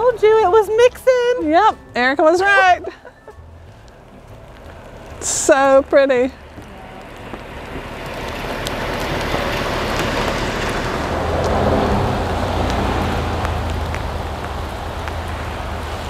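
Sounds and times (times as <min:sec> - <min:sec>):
rain and snow falling: 0:00.1 - 0:16.0.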